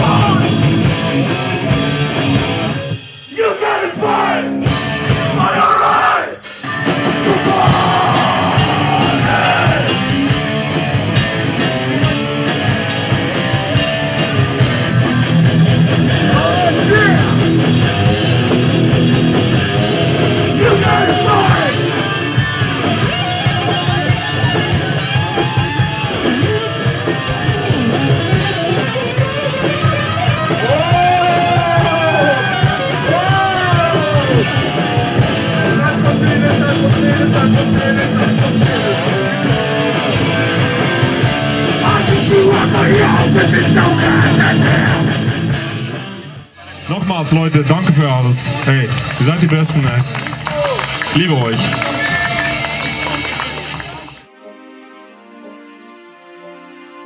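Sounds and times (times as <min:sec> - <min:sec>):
rock music with guitar and singing: 0:00.0 - 0:47.0.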